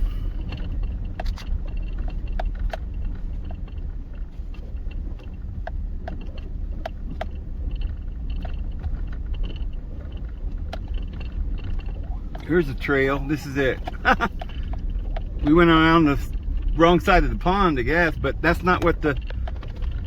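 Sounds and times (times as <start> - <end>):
engine and tyre rumble: 0.0 - 20.0
vehicle knocks and rattles: 0.0 - 20.0.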